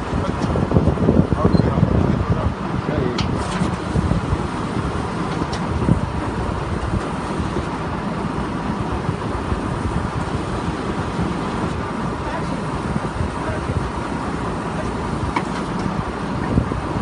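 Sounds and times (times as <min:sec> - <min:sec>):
drilling rig engine rumble: 0:00.0 - 0:17.0.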